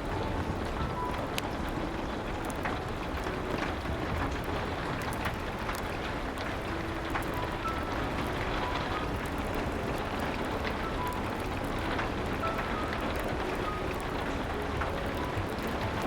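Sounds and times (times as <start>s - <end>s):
rain against a window: 0.0s - 16.0s
soft piano notes: 0.0s - 16.0s
wood fire crackling: 0.0s - 16.0s.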